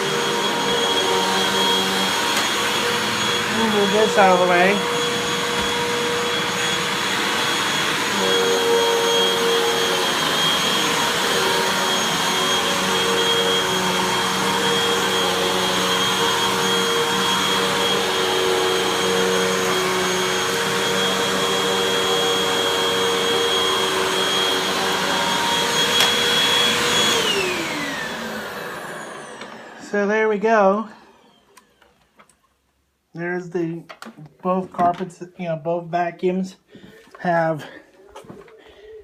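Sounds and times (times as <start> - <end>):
vacuum cleaner running on carpet: 0.0 - 31.8.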